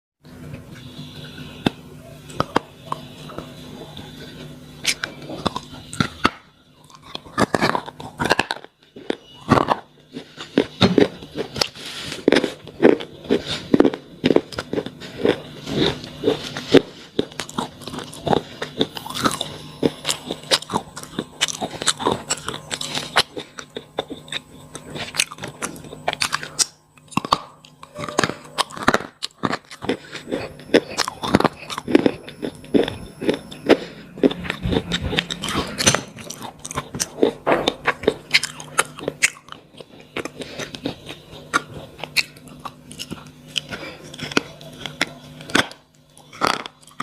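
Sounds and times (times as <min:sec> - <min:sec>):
faint steady hum: 0:00.2 - 0:47.0
pencils crunching being chewed: 0:00.8 - 0:47.0.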